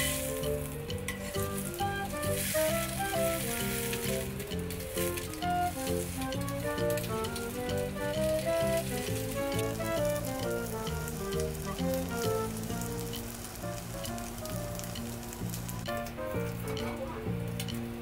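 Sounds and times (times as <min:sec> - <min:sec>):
bread sizzling in oil: 0:00.0 - 0:18.0
melodic background music: 0:00.0 - 0:18.0.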